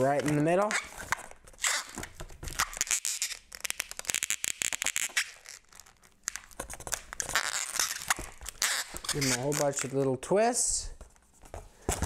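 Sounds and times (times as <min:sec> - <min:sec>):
rubber balloons scraping and clicking: 0:00.0 - 0:10.1.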